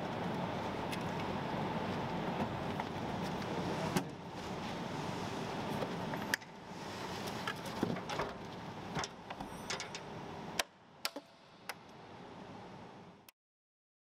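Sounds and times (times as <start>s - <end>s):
steady background noise: 0.0s - 13.3s.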